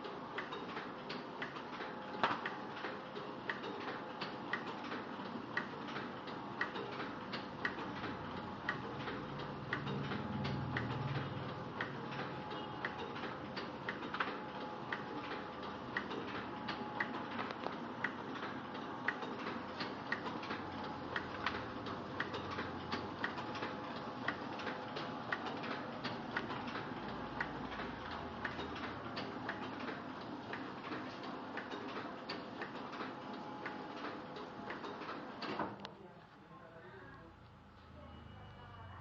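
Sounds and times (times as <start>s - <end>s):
regular machine clicking: 0.0s - 35.9s
printing press mechanical hum: 0.0s - 39.0s.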